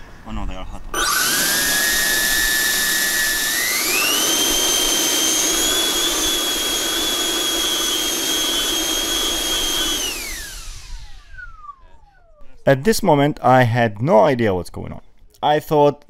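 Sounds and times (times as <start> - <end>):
electric ducted fans whining: 0.0 - 13.3.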